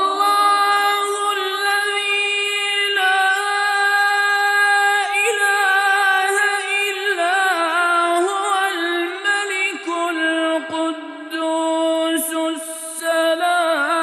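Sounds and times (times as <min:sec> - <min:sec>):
person reciting unaccompanied chant: 0:00.0 - 0:14.0.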